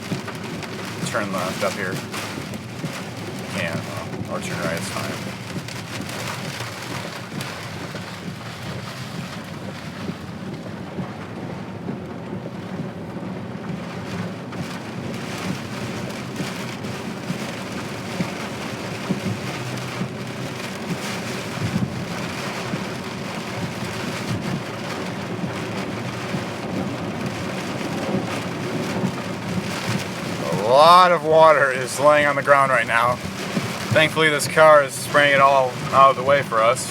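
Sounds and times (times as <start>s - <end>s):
low rumble of car: 0.0s - 36.9s
rain drumming on a car: 0.0s - 36.9s.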